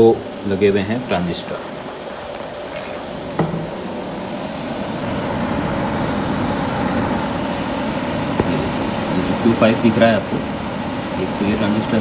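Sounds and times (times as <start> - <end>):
steady fan noise: 0.0 - 12.0.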